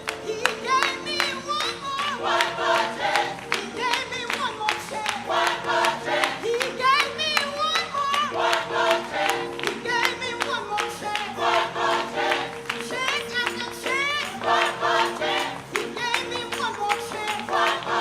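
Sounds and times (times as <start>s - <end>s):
gospel choir singing: 0.0s - 18.0s.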